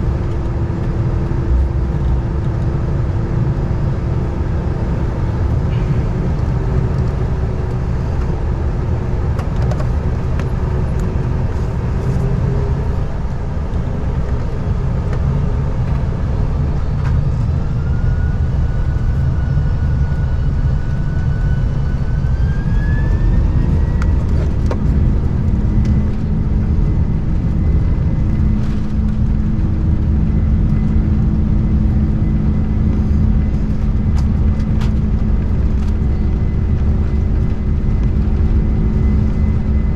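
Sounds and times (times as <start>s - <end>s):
jet engine cabin rumble: 0.0s - 39.9s
jet engine whine: 0.0s - 39.9s.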